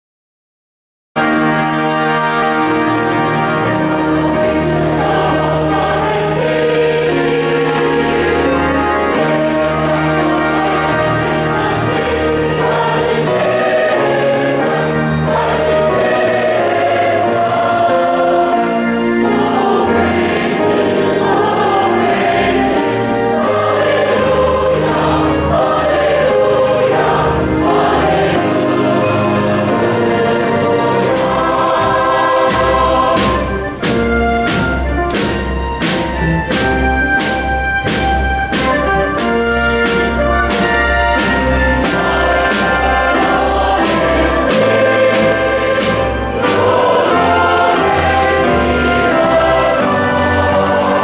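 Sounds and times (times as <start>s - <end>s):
choir singing a hymn: 1.2s - 51.0s
organ bass notes: 1.2s - 51.0s.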